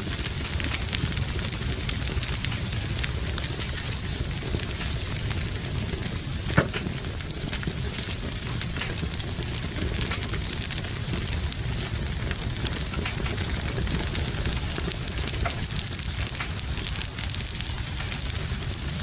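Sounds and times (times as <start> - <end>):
rain hiss: 0.0 - 19.0
wood fire crackling: 0.0 - 19.0.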